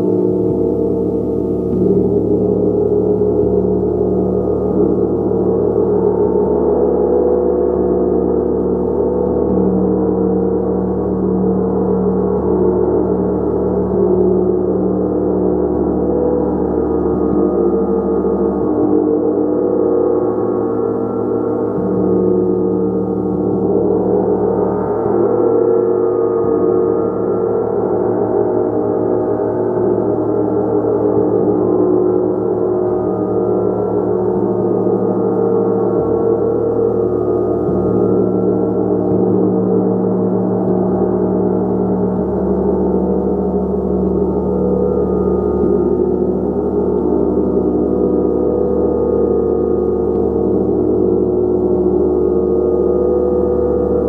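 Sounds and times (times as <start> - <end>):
gong sustained tones: 0.0 - 54.0.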